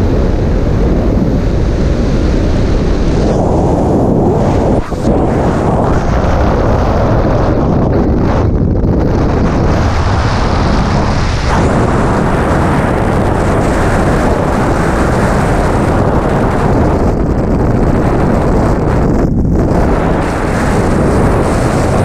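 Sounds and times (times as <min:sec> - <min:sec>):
freefall wind rushing: 0:00.0 - 0:22.0.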